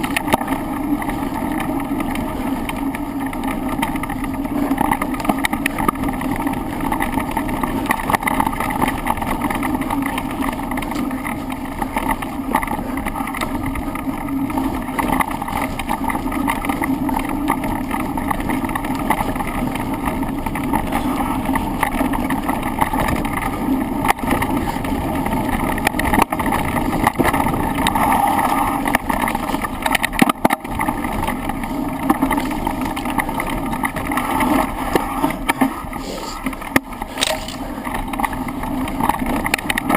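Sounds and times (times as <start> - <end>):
bike rattles and knocks: 0.0 - 39.9.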